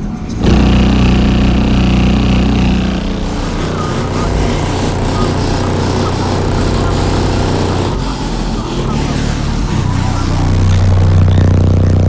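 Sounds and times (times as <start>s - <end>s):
deep subwoofer bass notes: 0.0s - 12.0s.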